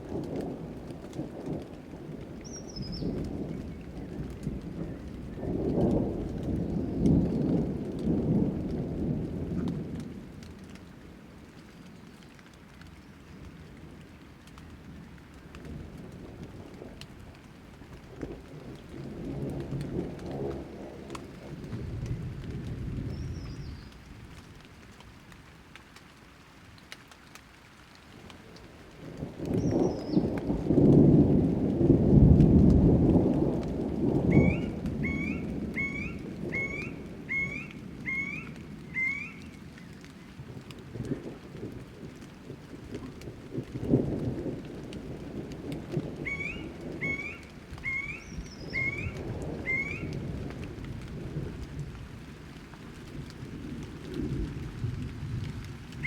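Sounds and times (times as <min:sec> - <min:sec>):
low rumble of thunder: 0:00.0 - 0:25.3, 0:27.9 - 0:56.0
steady rain: 0:00.0 - 0:56.0.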